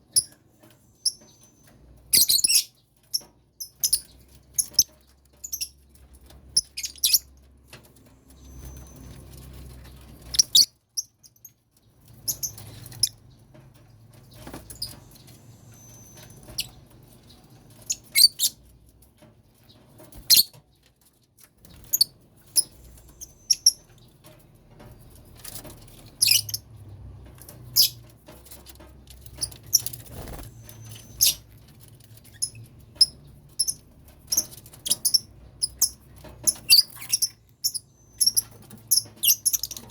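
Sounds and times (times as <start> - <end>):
birds chirping and squeaking: 0.0 - 39.9.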